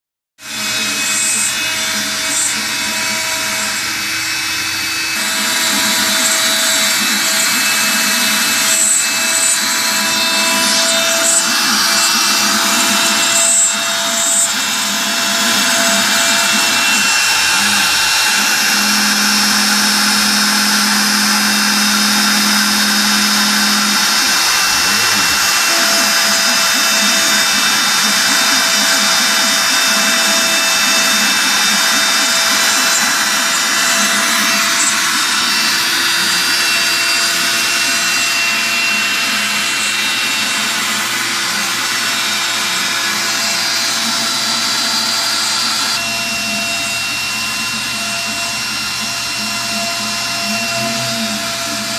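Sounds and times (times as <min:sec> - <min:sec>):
milling machine spindle running: 0:00.4 - 0:51.9
pitched machine tones: 0:00.6 - 0:41.0, 0:46.0 - 0:51.9.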